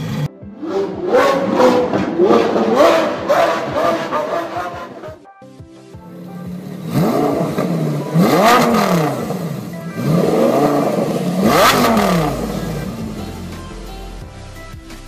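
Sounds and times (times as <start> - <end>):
car engine idling and revving: 0.0 - 5.2, 6.1 - 14.4.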